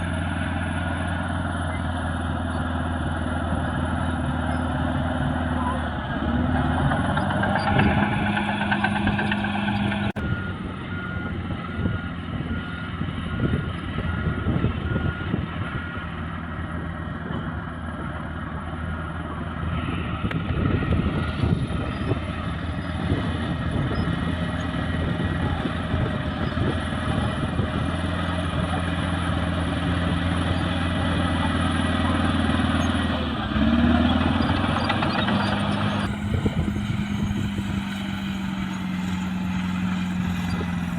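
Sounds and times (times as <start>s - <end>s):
bulldozer diesel engine clattering: 0.0s - 40.9s.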